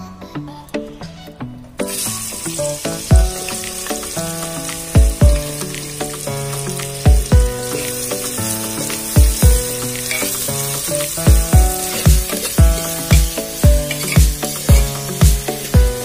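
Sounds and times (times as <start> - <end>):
background music with deep drum beat: 1.8 - 16.0
onions sizzling in hot oil: 1.8 - 16.0.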